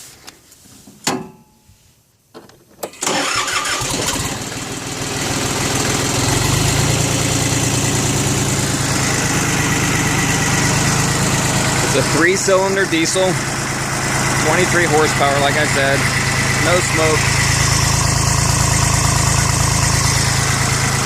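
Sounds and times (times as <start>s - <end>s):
diesel engine starting and idling: 2.8s - 21.0s.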